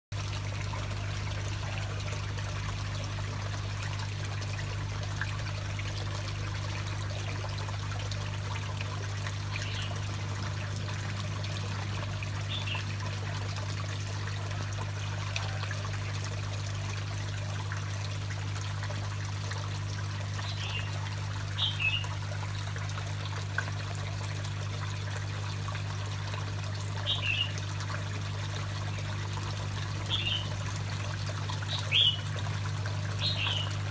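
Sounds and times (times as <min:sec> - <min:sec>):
water trickling into pond: 0:00.1 - 0:33.9
constant low hum: 0:00.2 - 0:33.9.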